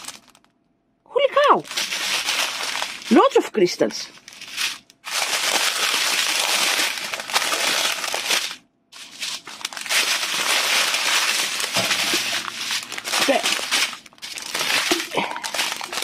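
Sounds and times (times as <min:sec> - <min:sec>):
plastic bags crinkling: 0:00.0 - 0:00.5, 0:01.4 - 0:16.0
small beads shifting in bags: 0:00.0 - 0:00.5, 0:01.6 - 0:03.4, 0:04.0 - 0:16.0.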